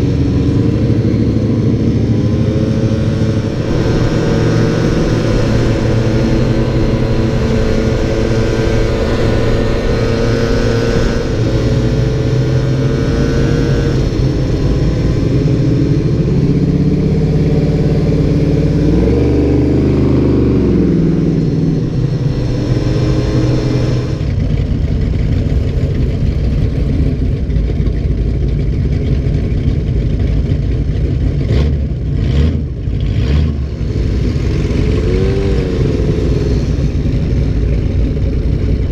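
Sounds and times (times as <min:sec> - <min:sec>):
car engines running: 0:00.0 - 0:38.9.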